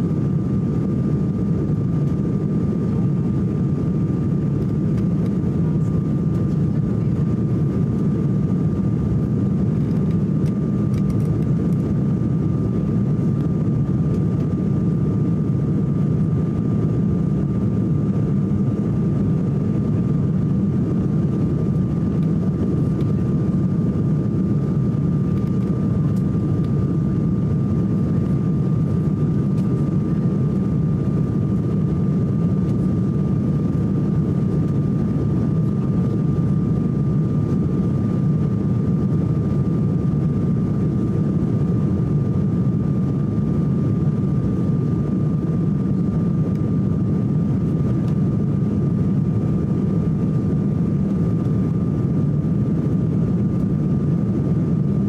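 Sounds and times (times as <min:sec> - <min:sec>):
airliner cabin engine drone: 0:00.0 - 0:55.0
thin steady whine: 0:00.0 - 0:55.0.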